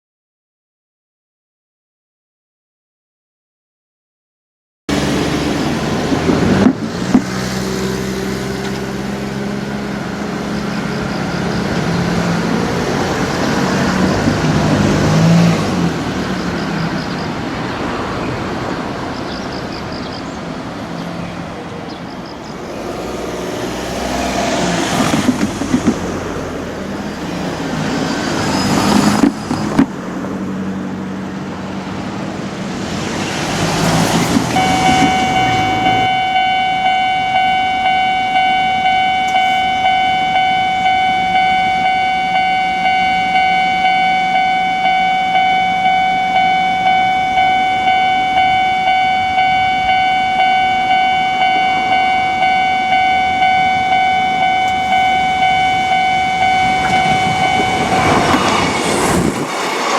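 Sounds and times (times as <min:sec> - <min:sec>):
vehicles driving past: 0:04.9 - 0:59.9.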